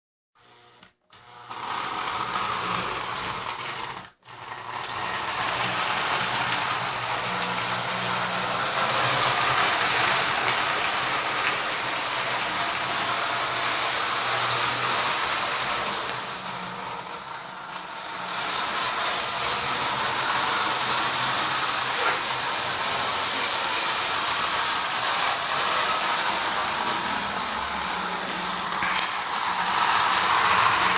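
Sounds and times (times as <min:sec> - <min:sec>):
toy train motor humming: 0:00.4 - 0:30.9
toy train wheels on rails: 0:00.4 - 0:30.9.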